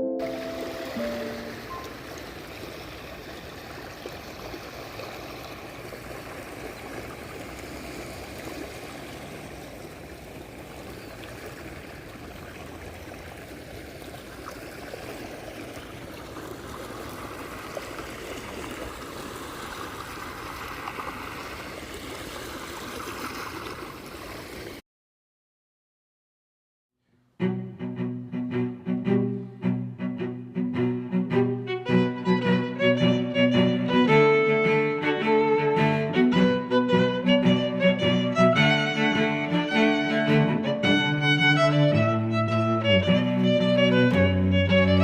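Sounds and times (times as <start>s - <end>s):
rushing water: 0.0s - 24.8s, 30.2s - 45.0s.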